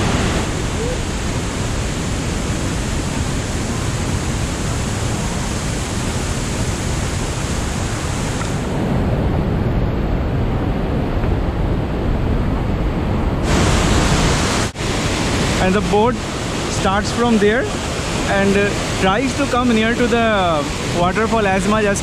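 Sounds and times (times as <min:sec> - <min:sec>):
river water rushing: 0:00.0 - 0:09.3, 0:13.4 - 0:22.0.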